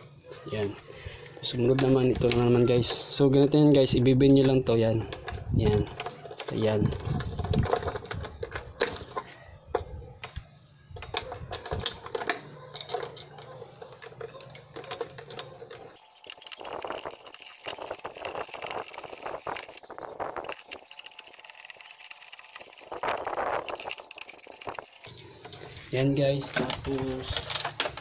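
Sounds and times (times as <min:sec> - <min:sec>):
plastic and metal clicks and scrapes: 0:01.4 - 0:25.6, 0:26.4 - 0:28.0.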